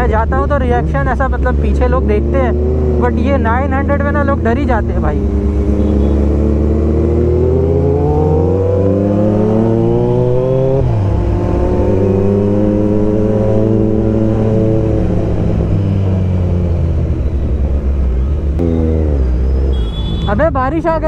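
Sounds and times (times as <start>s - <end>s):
motorcycle engine accelerating: 0.0s - 20.2s.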